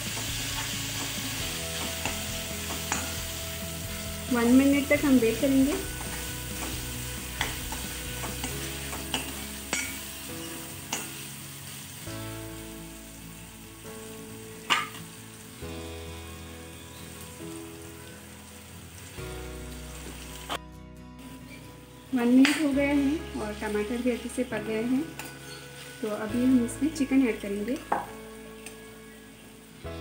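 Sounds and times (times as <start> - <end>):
tomatoes sizzling in hot oil: 0.0 - 20.6, 21.2 - 30.0.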